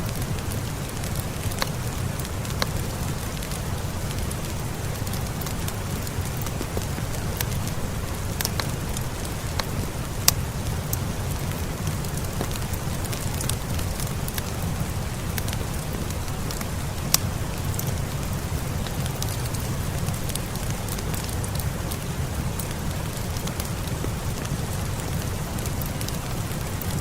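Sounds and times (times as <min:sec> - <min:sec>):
fire popping: 0:00.0 - 0:27.0
fireplace fire crackling: 0:00.0 - 0:27.0
steady rain: 0:00.0 - 0:27.0.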